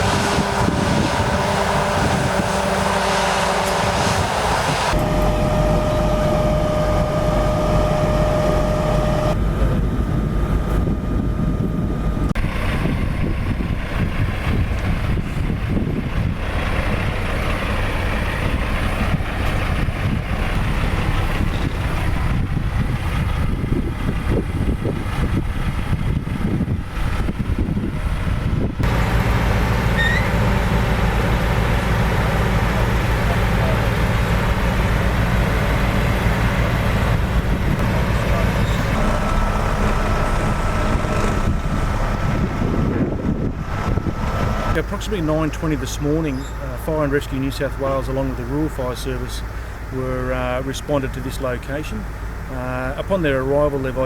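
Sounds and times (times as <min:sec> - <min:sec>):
heavy vehicle engines rumbling: 0:00.0 - 0:54.0
steady whine: 0:00.0 - 0:54.0.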